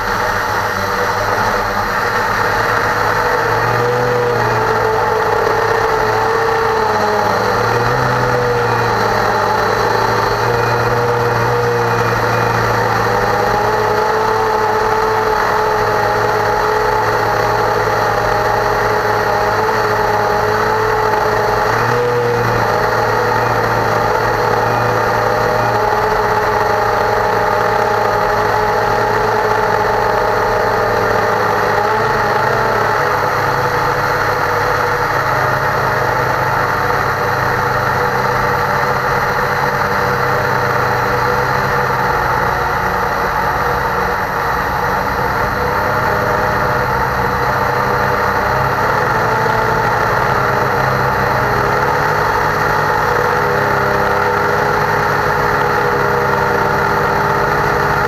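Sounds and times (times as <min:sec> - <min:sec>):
quadcopter motors whirring: 0:00.0 - 0:58.0.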